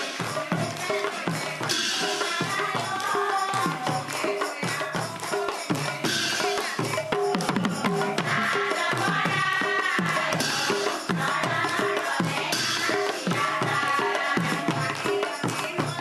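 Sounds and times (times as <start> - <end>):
clashing cymbals: 0.0 - 15.9
devotional hymn singing: 0.0 - 16.0
hand-drum strokes: 0.0 - 16.0.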